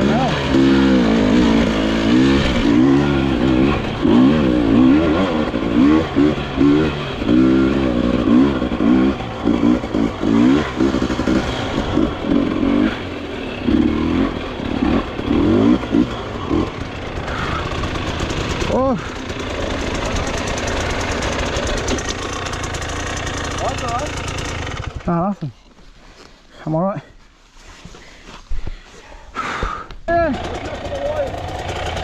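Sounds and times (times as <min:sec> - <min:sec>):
dirt bike engine revving: 0:00.0 - 0:25.3, 0:30.1 - 0:32.0.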